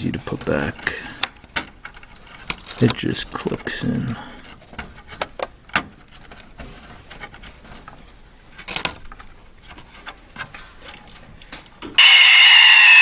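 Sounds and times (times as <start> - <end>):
plastic parts clicking into place: 1.2 - 12.0.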